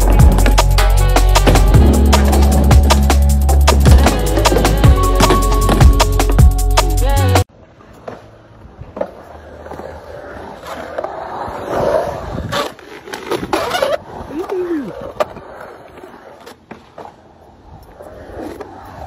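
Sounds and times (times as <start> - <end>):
skateboard wheels rolling on concrete: 0.0 - 19.0.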